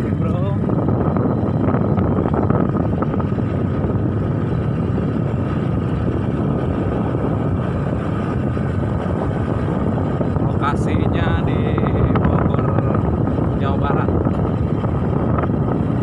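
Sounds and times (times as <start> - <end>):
vehicle noise rumble: 0.0 - 16.0
wind on microphone: 0.0 - 16.0.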